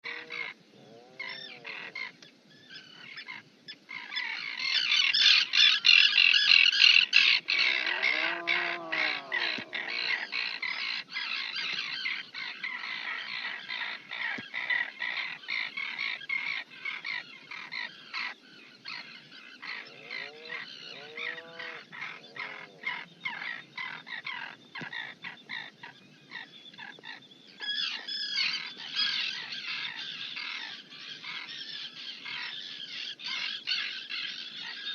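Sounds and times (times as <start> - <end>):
birds chirping and squawking: 0.0 - 34.9
lower arching bird calls: 0.0 - 34.9.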